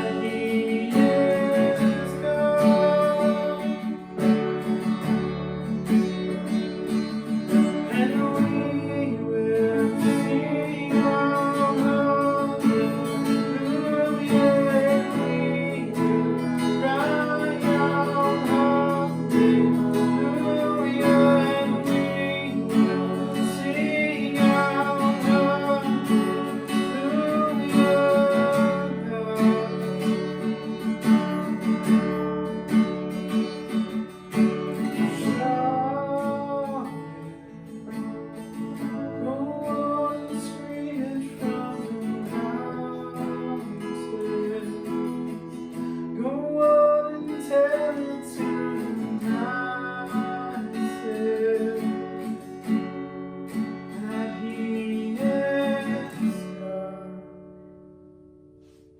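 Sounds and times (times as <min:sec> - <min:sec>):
person singing: 0:00.0 - 0:05.1, 0:06.8 - 0:53.0, 0:53.8 - 0:57.4
strummed acoustic guitar: 0:00.0 - 0:58.9.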